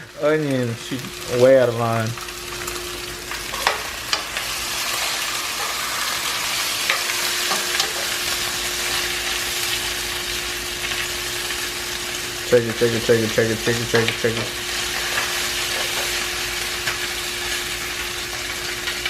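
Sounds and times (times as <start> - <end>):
rice sizzling in hot oil: 0.0 - 19.0.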